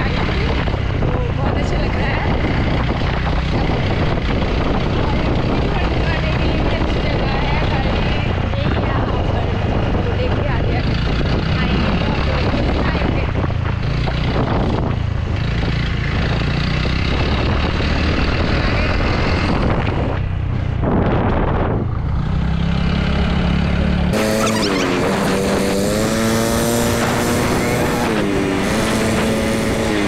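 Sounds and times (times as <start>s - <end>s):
vehicle engine running: 0.0s - 30.0s
wind and road noise: 0.0s - 30.0s.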